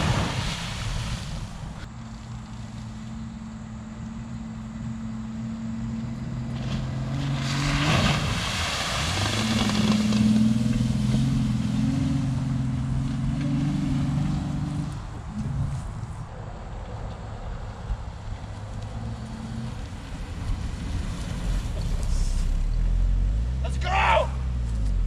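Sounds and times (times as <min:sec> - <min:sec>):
car engine running under load: 0:00.0 - 0:23.7.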